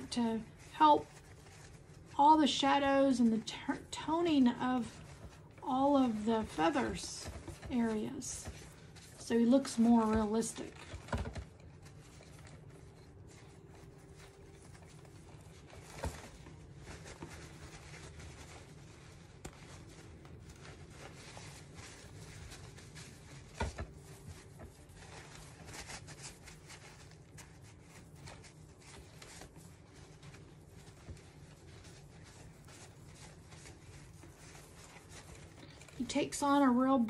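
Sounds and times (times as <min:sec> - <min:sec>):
faint low hum: 0:00.0 - 0:37.0
paper towel rustling and rubbing: 0:00.0 - 0:37.0.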